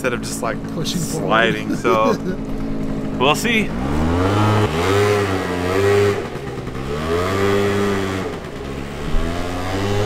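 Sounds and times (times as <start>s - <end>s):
scooter engine accelerating: 0.2s - 10.0s.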